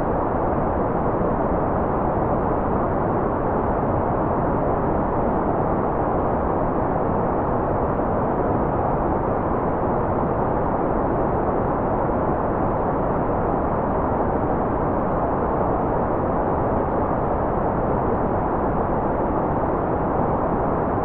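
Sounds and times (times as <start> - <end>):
muffled white noise: 0.0 - 21.0.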